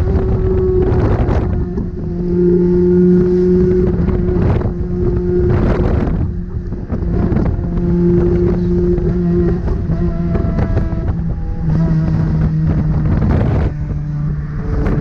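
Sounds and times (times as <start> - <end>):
car engine humming: 0.0 - 15.0
road and wind rumble: 0.0 - 15.0.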